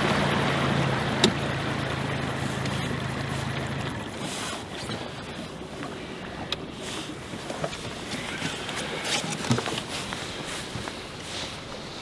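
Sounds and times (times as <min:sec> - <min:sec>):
water around boat: 0:00.0 - 0:12.0
wind: 0:00.0 - 0:12.0.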